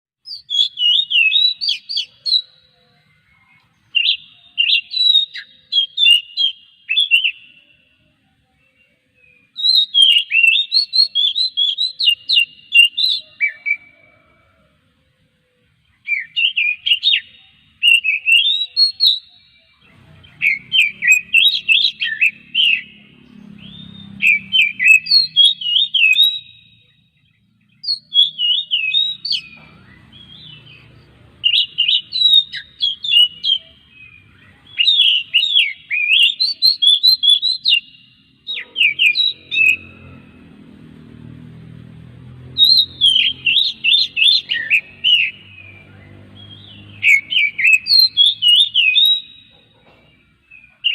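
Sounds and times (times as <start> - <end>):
bird singing whistles and chirps: 0.2 - 7.9, 8.6 - 14.5, 15.8 - 40.3, 42.4 - 50.9.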